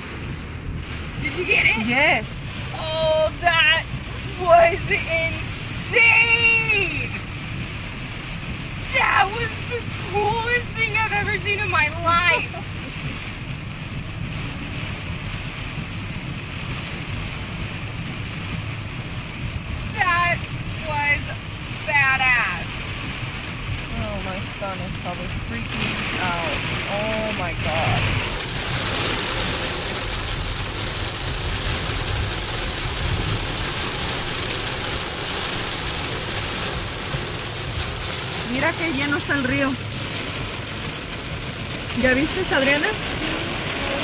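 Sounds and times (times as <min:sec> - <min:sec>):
car road noise rumble: 0:00.0 - 0:44.0
tyres hissing on wet pavement: 0:00.0 - 0:44.0.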